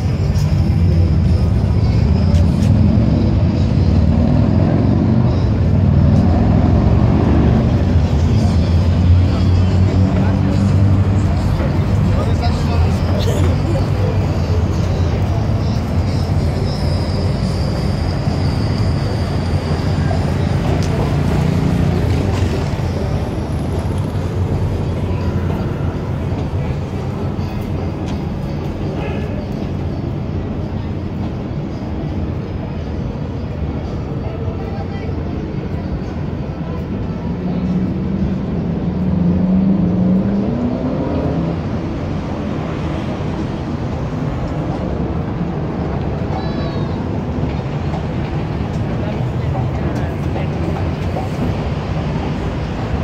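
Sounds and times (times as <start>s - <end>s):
city background rumble: 0.0s - 53.0s
traffic rushing: 0.0s - 53.0s.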